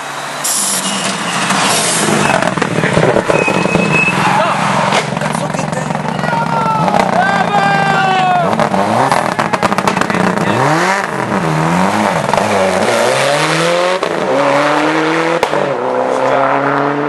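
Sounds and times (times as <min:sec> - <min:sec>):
rally car engine revving: 0:01.0 - 0:17.0.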